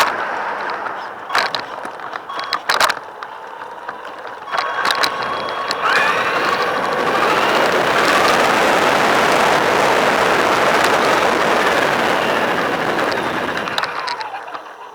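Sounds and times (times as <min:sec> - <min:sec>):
sharp clacks and rattles: 0:00.0 - 0:14.9
toy car motor whining: 0:00.0 - 0:14.9.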